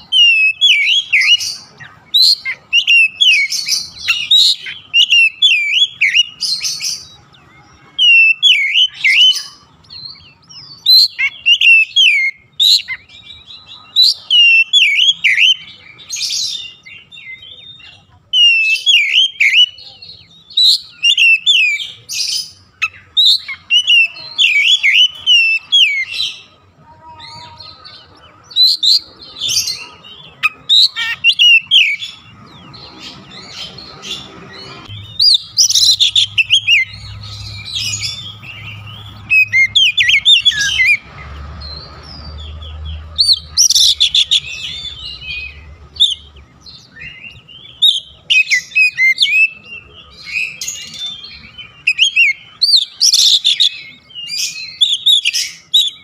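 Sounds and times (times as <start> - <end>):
bird singing whistled phrases: 0.0 - 26.5, 28.5 - 32.3, 33.7 - 41.0, 43.2 - 56.0.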